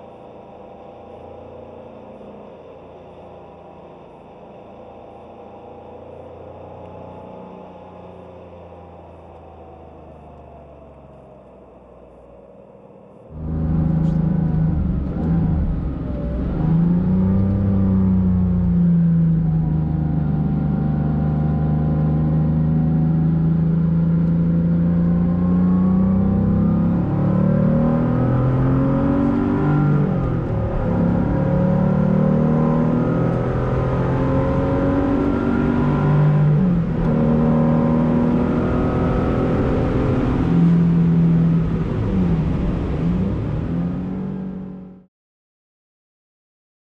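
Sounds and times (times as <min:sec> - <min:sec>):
car engine revving: 0:00.0 - 0:45.1.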